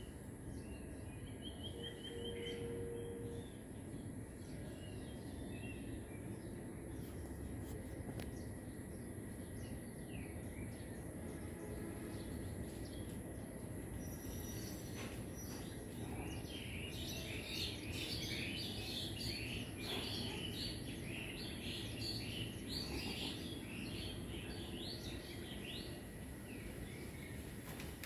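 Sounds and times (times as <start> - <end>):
low background noise: 0.0 - 28.0
small birds chirping: 0.0 - 28.0.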